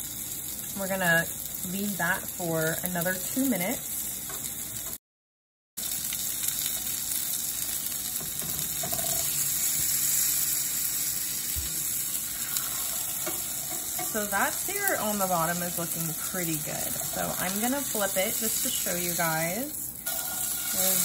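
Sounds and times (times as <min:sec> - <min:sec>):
chicken sizzling in frying pan: 0:00.0 - 0:05.0, 0:05.8 - 0:21.0.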